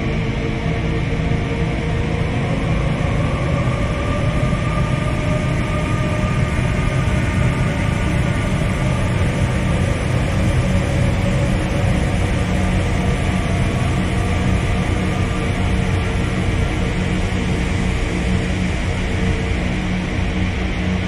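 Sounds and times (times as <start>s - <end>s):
dark ambient drone music: 0.0s - 21.0s.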